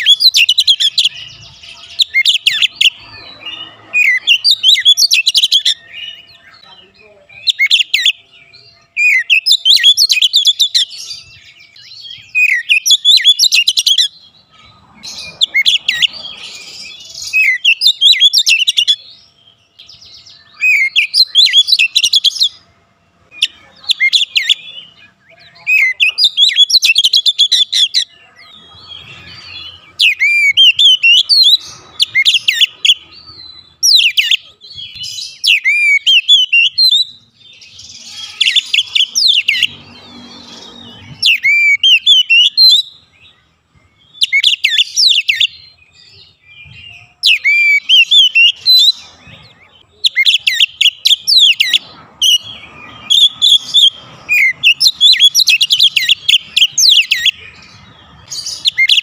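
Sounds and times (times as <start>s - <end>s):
songbird whistles and trills: 8.9s - 22.7s, 23.3s - 59.0s.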